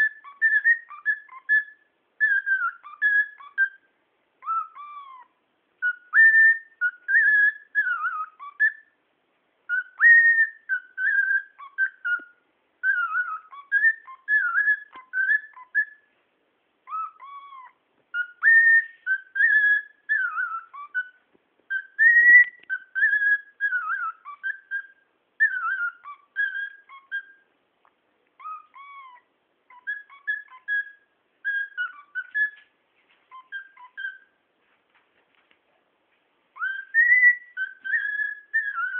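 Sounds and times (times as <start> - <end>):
cockatiel whistling: 0.0 - 9.0, 9.6 - 16.1, 16.8 - 27.5, 28.4 - 32.7, 33.3 - 34.4, 36.5 - 38.9.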